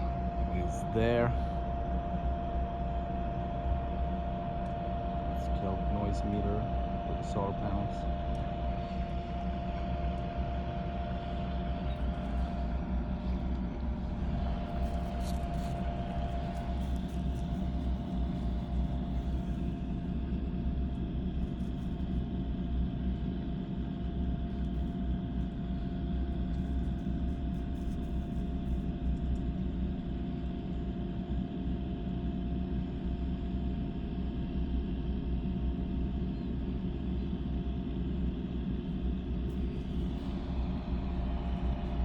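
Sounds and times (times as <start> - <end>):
drilling rig machinery droning: 0.0 - 35.0, 37.6 - 42.0.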